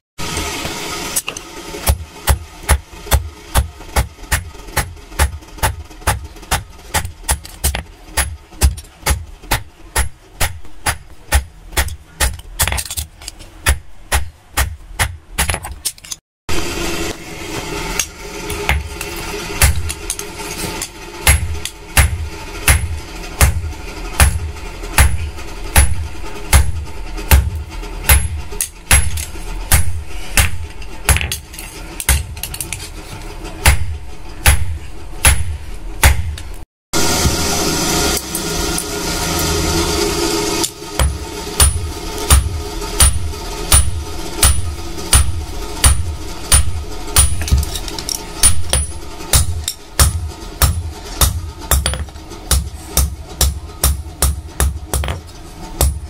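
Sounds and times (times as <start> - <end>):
steady hum: 0.2 - 56.0
hammer striking metal on anvil: 1.1 - 16.2, 17.8 - 32.9, 33.5 - 56.0.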